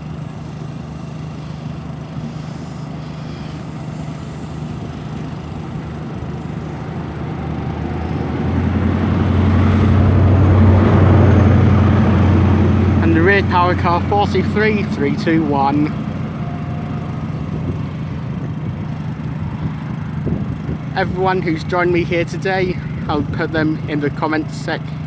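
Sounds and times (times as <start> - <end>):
rumble of train: 0.0 - 21.3
diesel train engine: 0.0 - 25.0.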